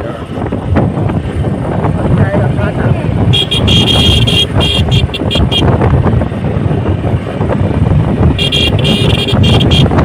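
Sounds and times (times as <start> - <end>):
motorcycle engine: 0.0 - 10.0
road noise: 0.0 - 10.0
wind buffeting microphone: 0.0 - 10.0.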